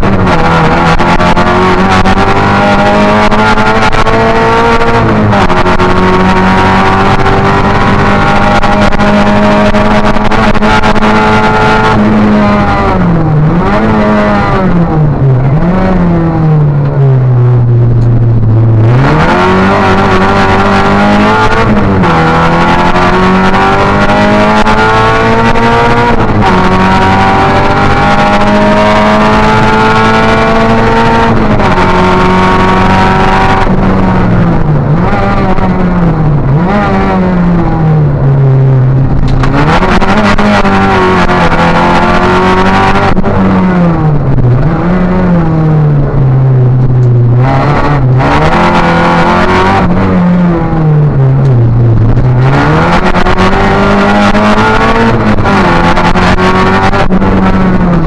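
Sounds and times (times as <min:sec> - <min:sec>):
rally car engine accelerating: 0:00.0 - 0:58.0
throttle blips on downshifts: 0:00.0 - 0:58.0.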